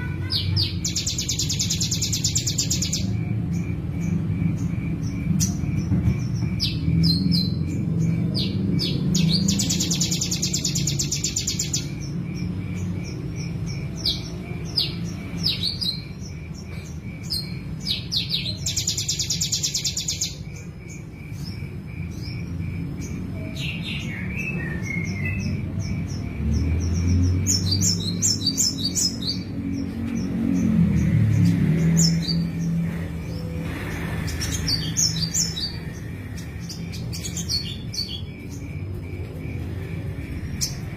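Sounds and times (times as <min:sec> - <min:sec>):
songbird chirping and trilling: 0:00.0 - 0:40.9.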